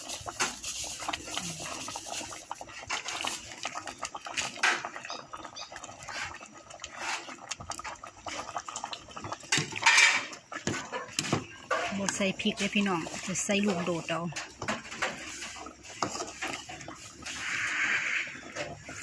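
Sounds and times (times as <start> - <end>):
pot boiling on gas burner: 0.0 - 19.0.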